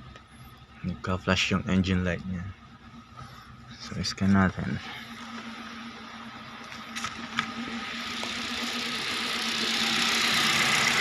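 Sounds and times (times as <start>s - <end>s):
car engine idling roughly: 0.0s - 11.0s.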